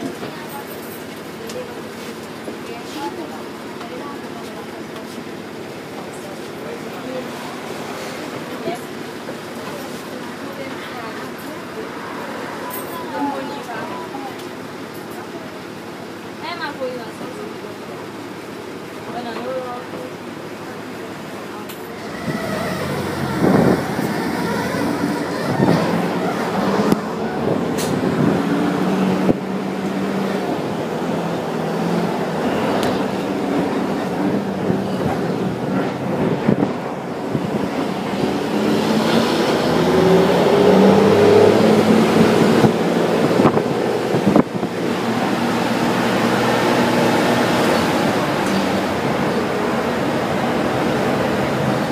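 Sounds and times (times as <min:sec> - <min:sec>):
road rumble: 0:00.0 - 0:51.9.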